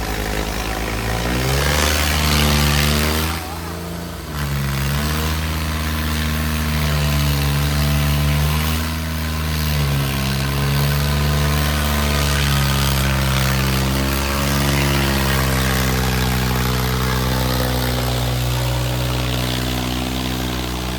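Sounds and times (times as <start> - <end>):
diesel tractor engines under load: 0.0 - 20.9.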